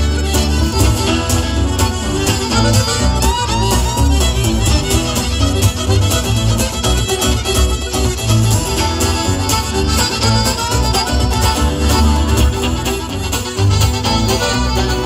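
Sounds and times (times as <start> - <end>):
folk band playing live: 0.0 - 15.0
pulsing bass: 0.0 - 15.0.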